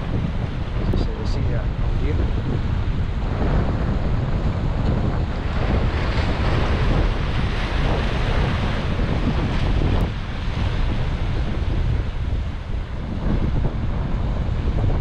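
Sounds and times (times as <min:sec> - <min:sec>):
wind buffeting microphone: 0:00.0 - 0:15.0
surf breaking against rocks: 0:00.1 - 0:15.0.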